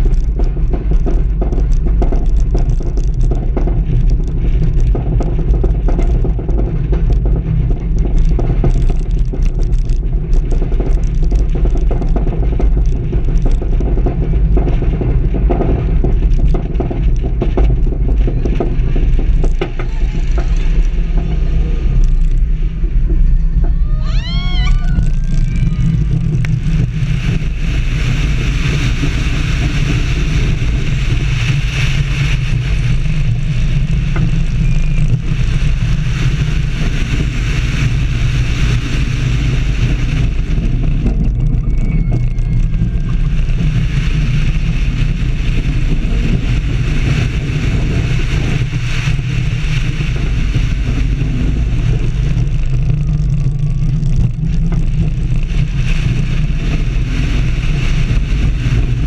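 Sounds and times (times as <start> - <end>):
roller coaster running on steel track: 0.0 - 59.0
wind rushing over microphone: 0.0 - 59.0.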